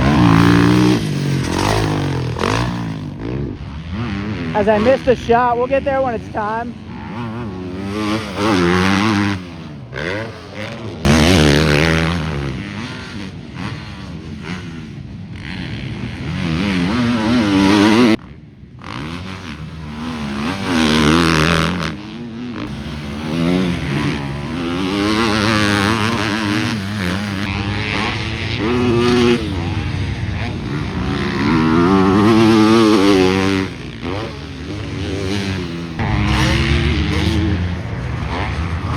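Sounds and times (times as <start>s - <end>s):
dirt bike engines at full throttle: 0.0s - 38.9s.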